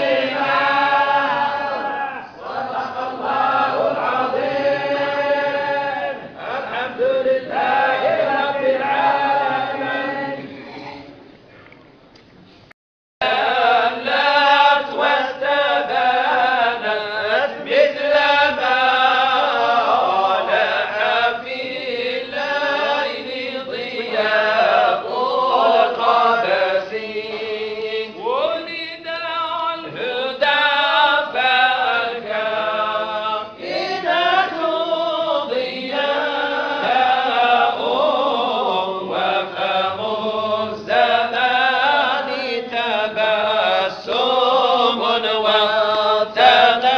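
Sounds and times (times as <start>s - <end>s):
men chanting in unison: 0.0s - 11.0s, 13.2s - 46.9s.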